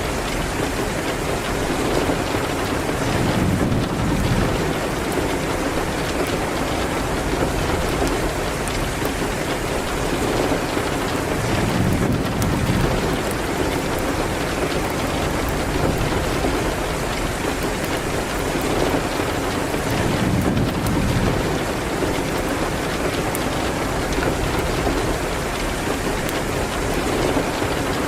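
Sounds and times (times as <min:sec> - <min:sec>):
rain hitting a window: 0:00.0 - 0:28.0
wood fire crackling: 0:00.0 - 0:28.0.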